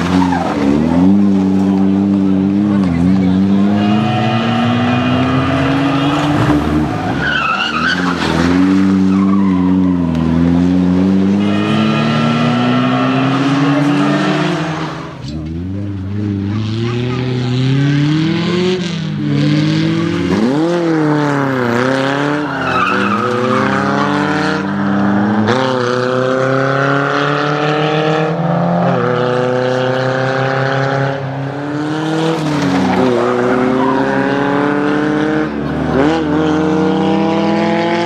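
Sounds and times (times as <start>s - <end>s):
rally car engines accelerating: 0.0s - 38.0s.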